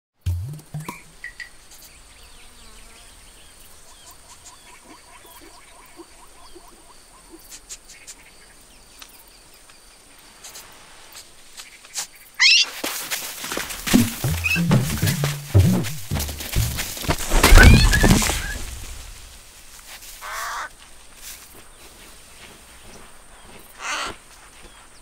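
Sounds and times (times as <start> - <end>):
insects buzzing: 0.4 - 25.0.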